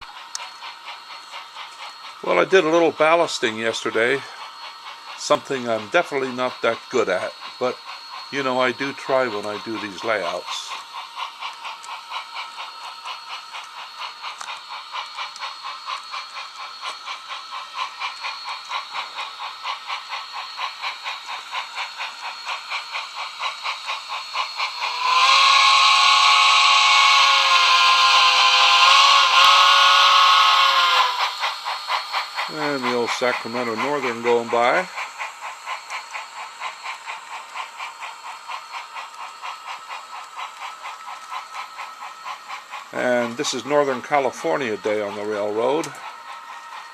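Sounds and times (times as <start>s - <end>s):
model steam locomotive chuffing: 0.0s - 46.9s
multi-chime steam whistle: 0.4s - 35.2s, 35.8s - 46.9s.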